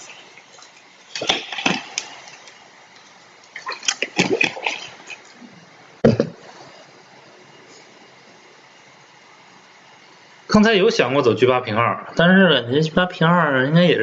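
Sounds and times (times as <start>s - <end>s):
low steady background hiss: 0.0s - 14.0s.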